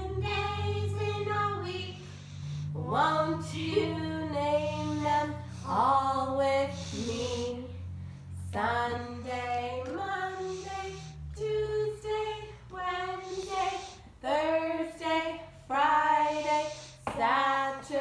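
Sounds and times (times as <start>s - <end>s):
woman singing unaccompanied: 0.0s - 2.0s, 2.6s - 18.0s
faint low hum: 0.0s - 18.0s.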